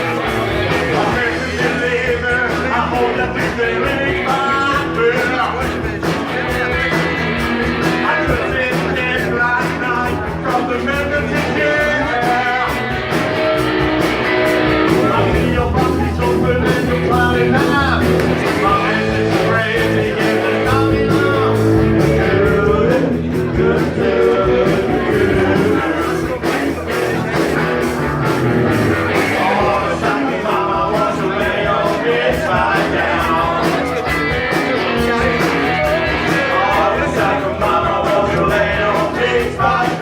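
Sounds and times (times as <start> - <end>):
electric guitar: 0.0 - 40.0
steady drum beat: 0.0 - 40.0.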